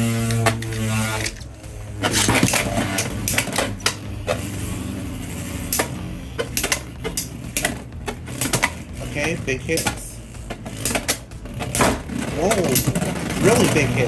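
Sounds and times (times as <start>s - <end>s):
spinning tops whirring: 0.0s - 14.0s.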